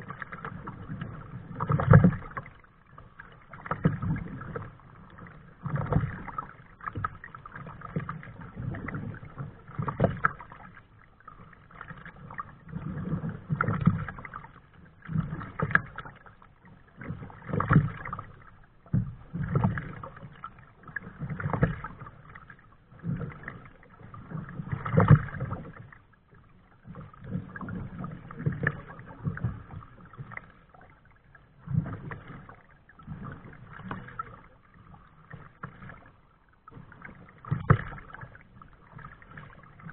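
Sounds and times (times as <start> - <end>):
paddle strokes splashing water: 0.0 - 39.9.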